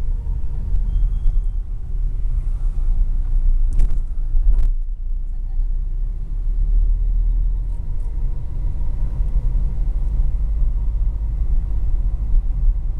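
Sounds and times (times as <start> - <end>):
car road and engine noise: 0.0 - 12.9.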